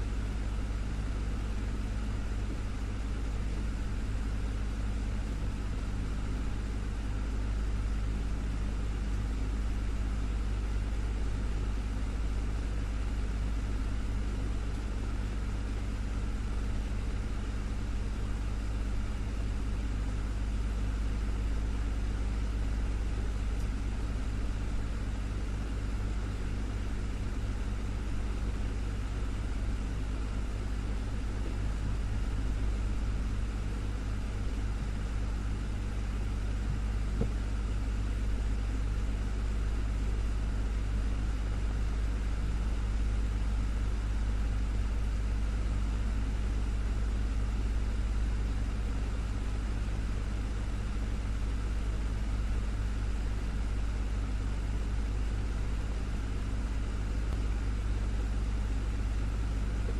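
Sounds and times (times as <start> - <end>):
desktop fan humming: 0.0 - 59.9.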